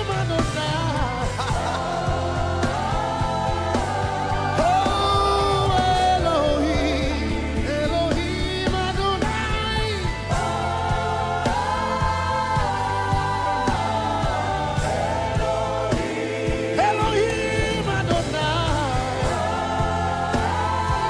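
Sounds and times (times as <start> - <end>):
band playing sustained chords: 0.0 - 21.0.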